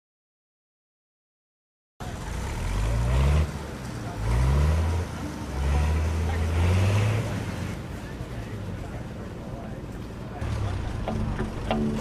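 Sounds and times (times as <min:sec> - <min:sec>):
tractor engine accelerating: 0:02.0 - 0:12.0.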